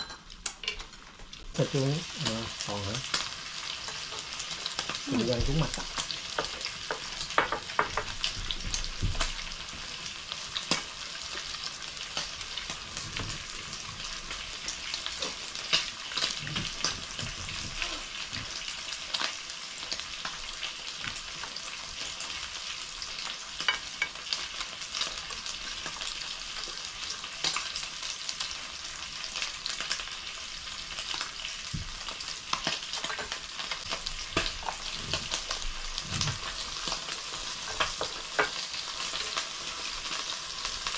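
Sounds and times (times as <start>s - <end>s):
meat sizzling on grill pan: 0.0s - 40.9s.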